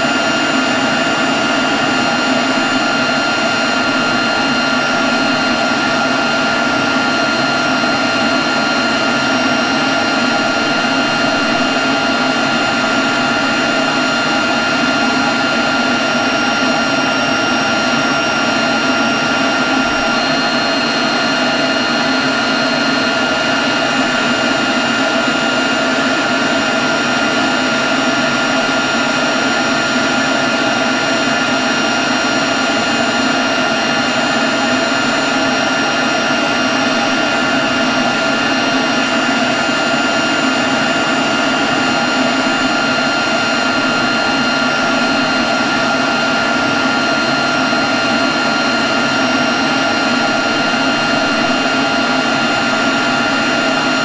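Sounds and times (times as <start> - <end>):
leaf blower running: 0.0 - 54.0.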